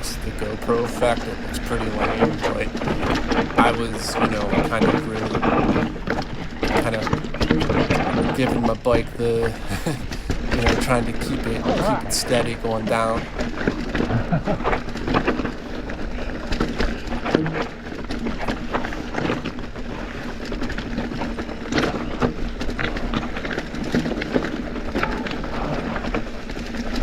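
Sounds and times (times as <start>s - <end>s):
bike clattering over rocks: 0.0s - 27.0s.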